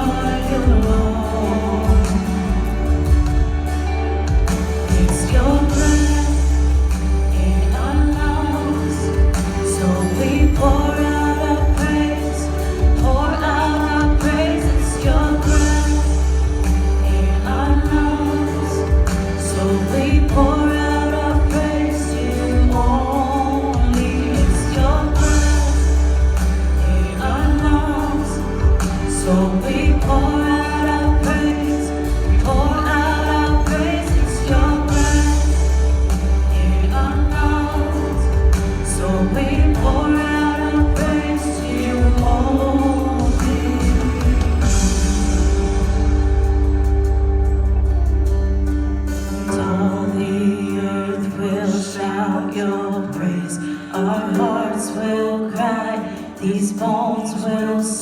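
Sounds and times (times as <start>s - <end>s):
band accompaniment with bass: 0.0s - 58.0s
voices singing: 0.0s - 58.0s.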